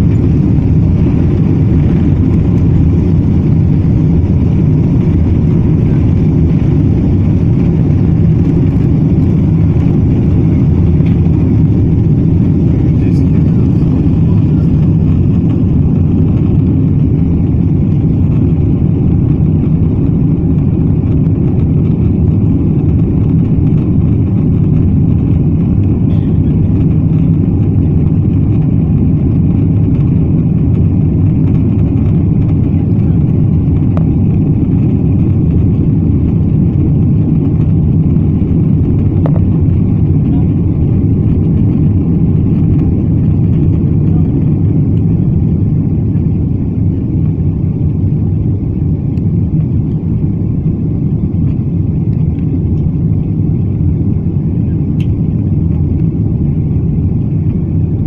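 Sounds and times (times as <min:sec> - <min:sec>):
jet engines roaring in cabin: 0:00.0 - 0:58.0.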